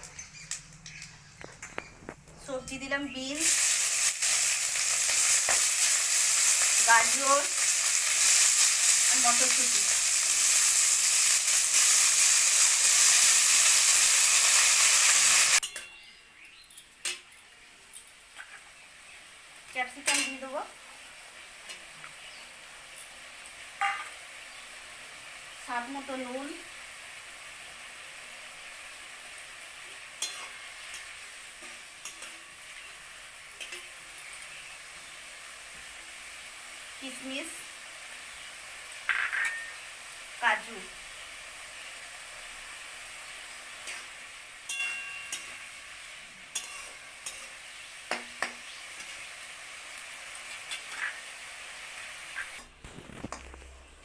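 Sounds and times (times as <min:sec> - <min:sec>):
vegetables sizzling in hot oil: 0:00.1 - 0:15.7, 0:16.4 - 0:53.8.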